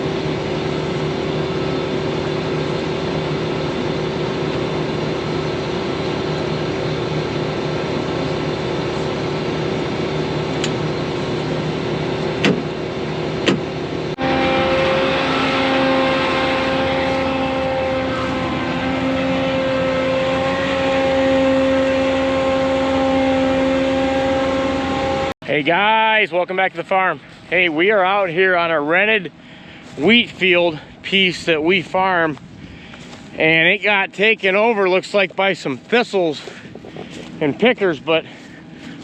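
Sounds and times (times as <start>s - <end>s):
farm machinery engine running: 0.0s - 39.0s.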